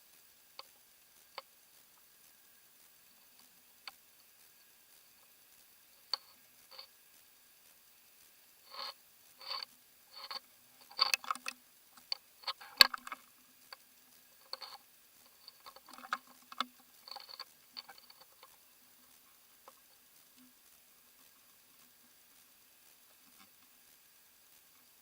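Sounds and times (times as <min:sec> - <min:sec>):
underwater clicks and rustles: 0:00.4 - 0:07.2, 0:08.7 - 0:25.0.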